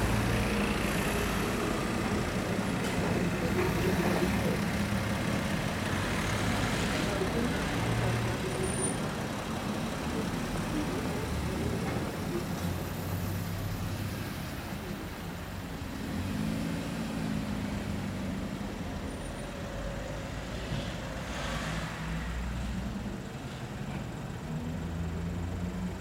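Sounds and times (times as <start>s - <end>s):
road vehicles passing: 0.0s - 26.0s.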